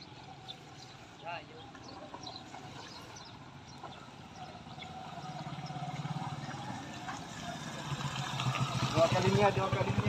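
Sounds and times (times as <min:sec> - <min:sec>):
motorcycle engines approaching: 0:00.0 - 0:10.0.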